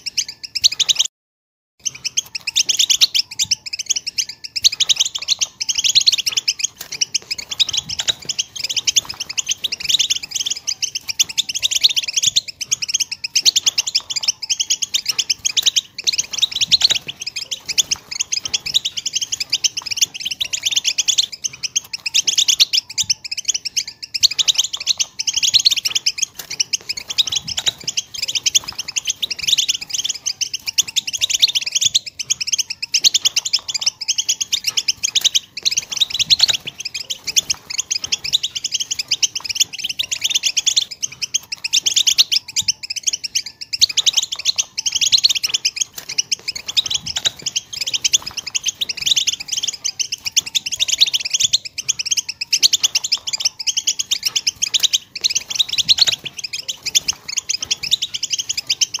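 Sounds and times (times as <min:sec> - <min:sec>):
finch singing: 0:00.0 - 0:01.1, 0:01.8 - 0:59.0.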